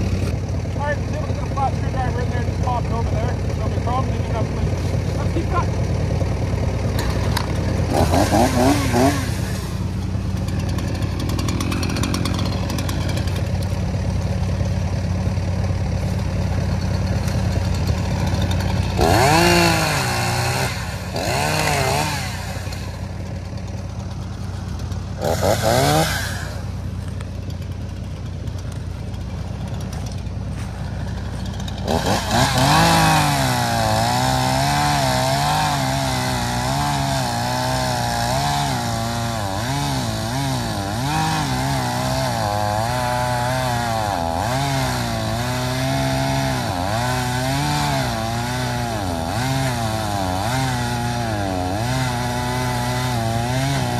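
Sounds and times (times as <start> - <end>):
chainsaw revving and cutting wood: 0.0 - 53.9
low engine hum: 0.0 - 53.9.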